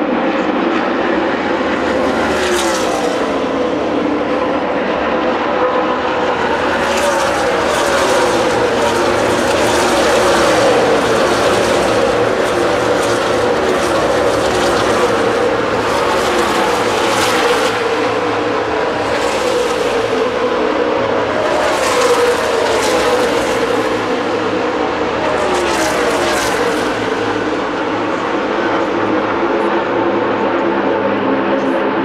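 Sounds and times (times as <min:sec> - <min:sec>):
race car engines passing: 0:00.0 - 0:32.0.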